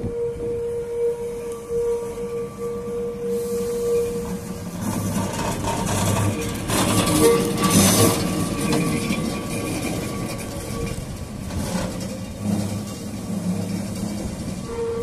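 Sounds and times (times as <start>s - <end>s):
tram passing on rails: 0.0s - 15.0s.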